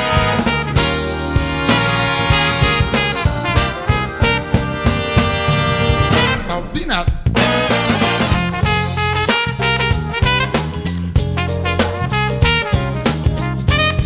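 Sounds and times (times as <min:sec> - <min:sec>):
jazz band with brass horns: 0:00.0 - 0:14.0.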